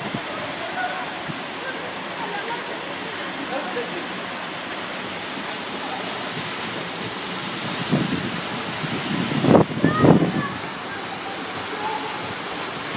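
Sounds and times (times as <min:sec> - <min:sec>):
heavy rain hissing: 0:00.0 - 0:12.9.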